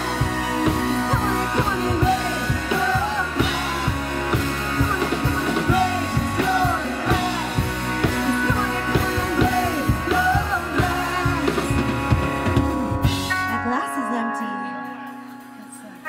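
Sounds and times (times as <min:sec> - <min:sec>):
drum kit beating: 0:00.0 - 0:13.8
sung vocals: 0:00.0 - 0:14.9
electric guitars: 0:00.0 - 0:16.0.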